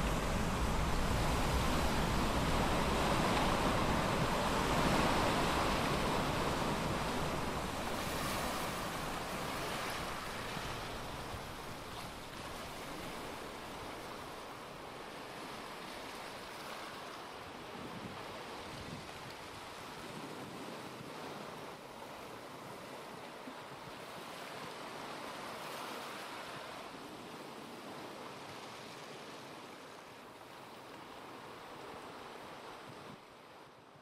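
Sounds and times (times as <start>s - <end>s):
ocean surf: 0.0s - 34.0s
wind: 0.0s - 34.0s.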